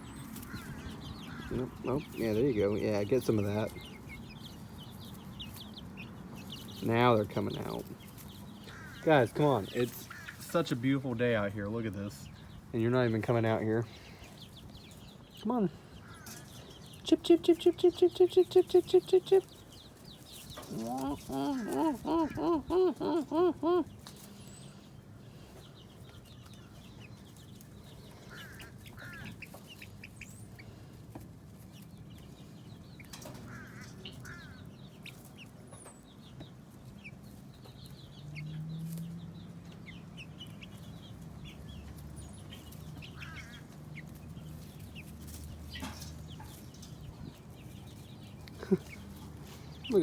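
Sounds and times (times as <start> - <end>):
chicks peeping and clucking: 0.0 - 50.0.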